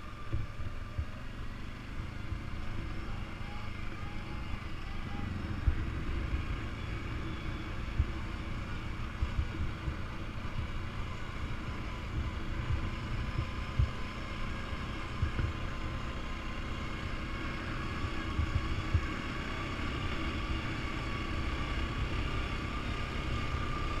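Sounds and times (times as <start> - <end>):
faint thin whine: 0.0 - 24.0
quad bike engine running: 0.0 - 24.0.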